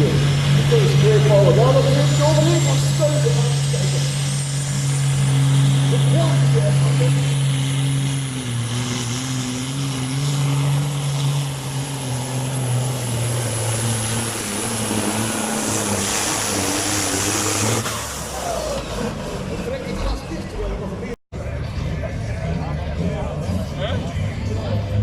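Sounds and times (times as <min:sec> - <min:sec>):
heavy diesel engine running hard: 0:00.0 - 0:25.0.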